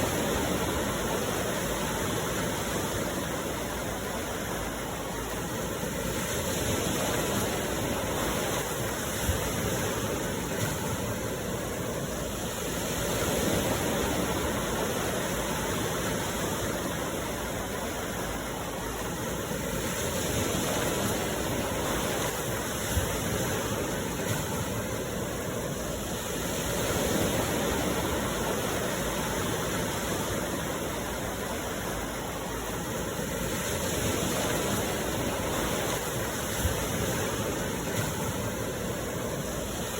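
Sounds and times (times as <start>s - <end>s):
waves washing: 0.0s - 39.9s.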